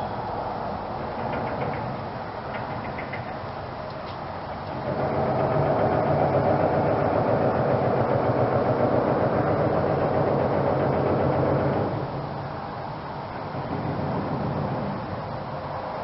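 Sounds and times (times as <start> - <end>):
layered droning hum: 0.0 - 16.0.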